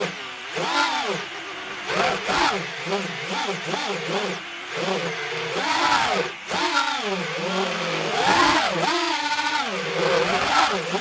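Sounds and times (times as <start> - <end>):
brushless motors whining: 0.0 - 11.0.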